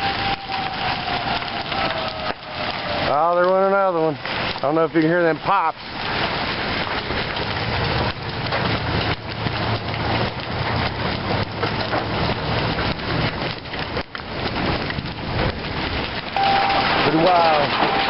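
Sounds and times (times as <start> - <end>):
hailstones clattering: 0.0 - 18.0
rain: 0.0 - 18.0.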